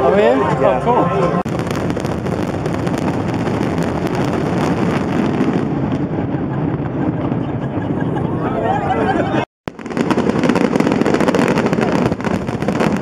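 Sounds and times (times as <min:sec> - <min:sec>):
fireworks rumbling and crackling: 0:01.4 - 0:13.0
wind buffeting microphone: 0:01.4 - 0:13.0.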